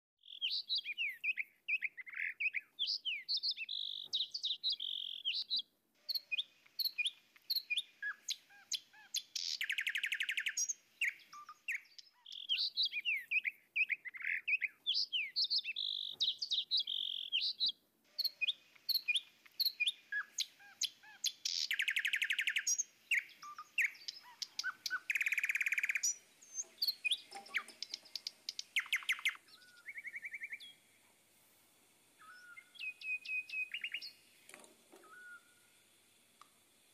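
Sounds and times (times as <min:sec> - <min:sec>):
birdsong chirps and trills: 0:00.2 - 0:31.0, 0:32.2 - 0:35.8.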